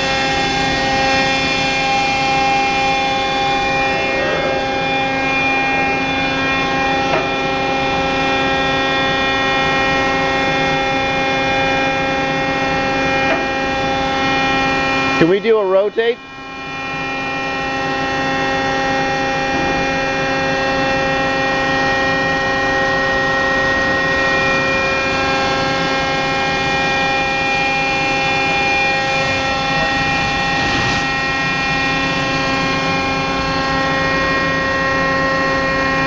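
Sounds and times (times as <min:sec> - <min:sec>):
robot arm machinery hum: 0:00.0 - 0:15.6, 0:16.2 - 0:36.0.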